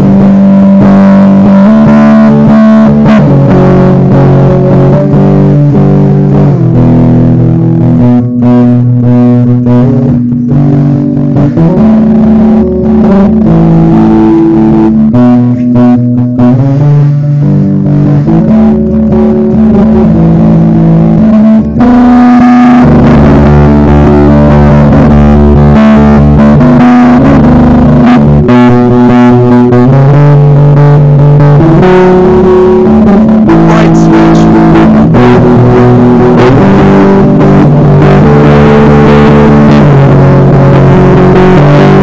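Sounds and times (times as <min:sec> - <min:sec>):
distorted electric bass notes: 0:00.0 - 0:42.0.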